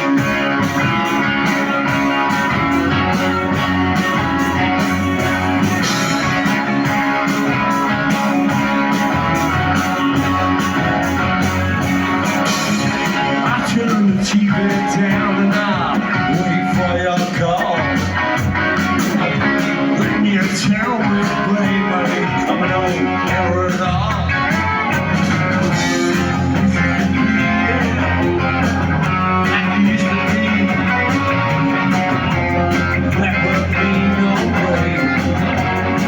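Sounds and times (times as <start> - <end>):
electric guitars: 0.0 - 36.0
live rock band playing: 0.0 - 36.0.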